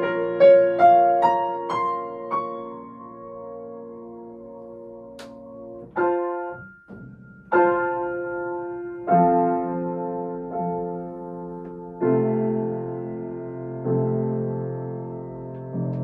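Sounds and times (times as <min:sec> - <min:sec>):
grand piano chords: 0:00.0 - 0:16.0.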